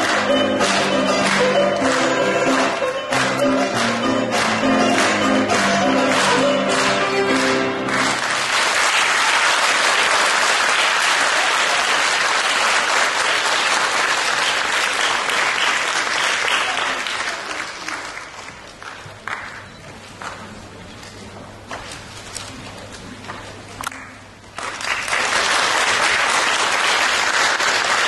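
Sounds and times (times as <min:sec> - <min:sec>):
audience applauding: 0:00.0 - 0:20.6, 0:23.8 - 0:28.0.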